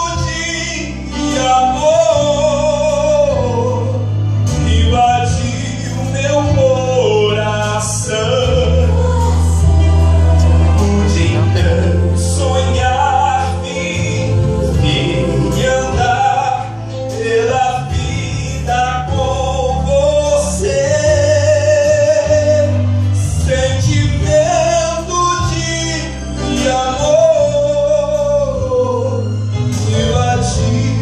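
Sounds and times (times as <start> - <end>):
instrumental accompaniment with bass: 0.0 - 31.0
man singing gospel song: 0.0 - 31.0.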